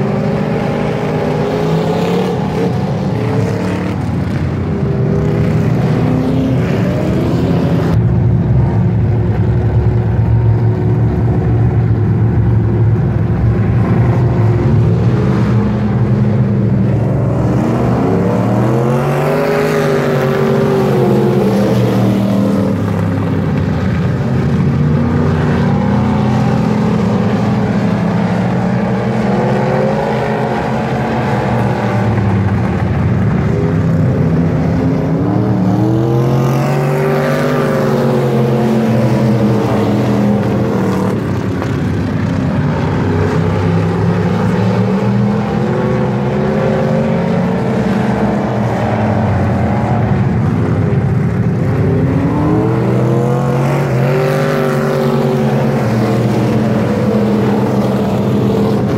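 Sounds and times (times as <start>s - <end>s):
race car engines running hard: 0.0s - 58.9s.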